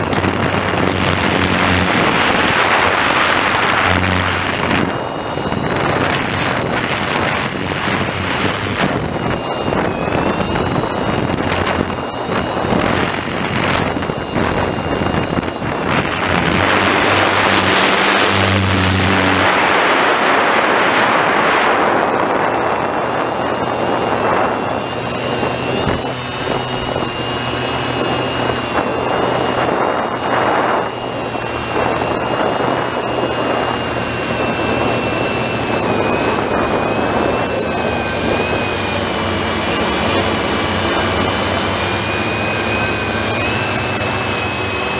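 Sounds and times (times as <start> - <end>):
drone propellers whining: 0.0 - 44.9
wind on microphone: 0.0 - 44.9.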